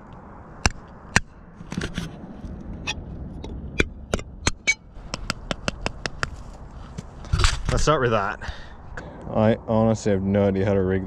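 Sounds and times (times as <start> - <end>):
faint low background noise: 0.0 - 11.0.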